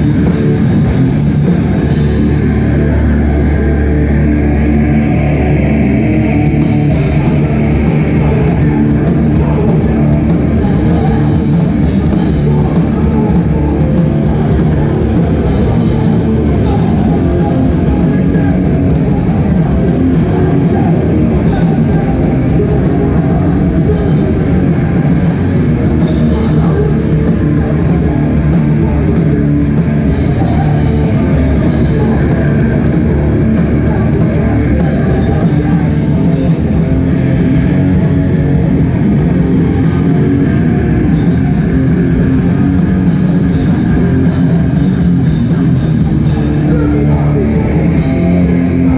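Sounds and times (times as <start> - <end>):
bass guitar: 0.0 - 48.9
distorted electric guitars: 0.0 - 48.9.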